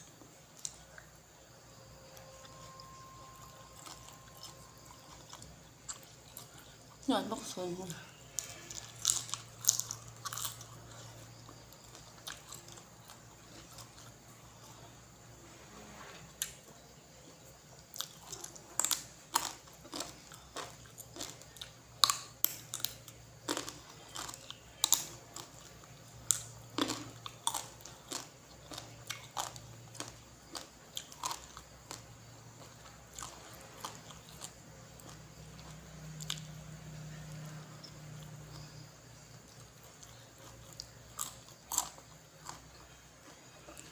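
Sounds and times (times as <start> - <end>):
person chewing crunchy food: 0.1 - 7.0, 8.1 - 15.2, 16.4 - 43.9.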